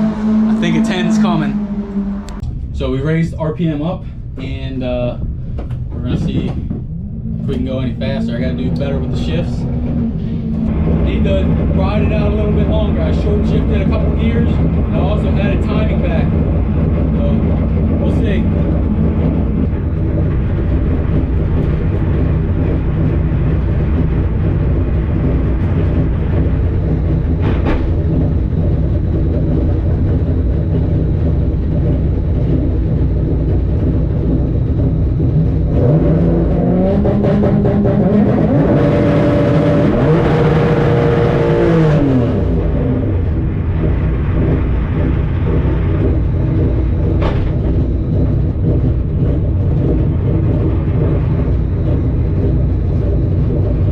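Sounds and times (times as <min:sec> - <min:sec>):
car engine idling and revving: 0:00.0 - 0:53.9.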